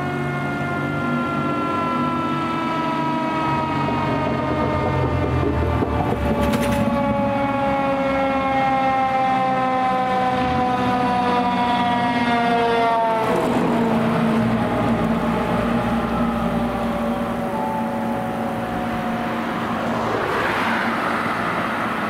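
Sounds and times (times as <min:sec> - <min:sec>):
fire engine siren wailing: 0:00.0 - 0:22.0.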